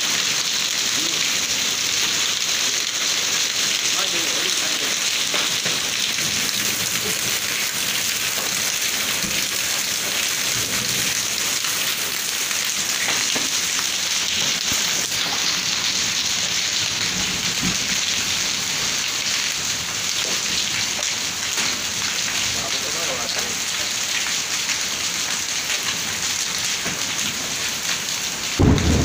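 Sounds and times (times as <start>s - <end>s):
heavy rain on concrete: 0.0s - 29.0s.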